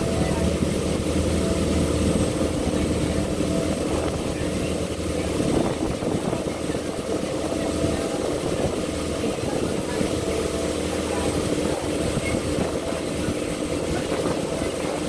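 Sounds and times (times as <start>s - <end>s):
boat engine drone: 0.0s - 15.0s
boat rushing through water: 0.0s - 15.0s.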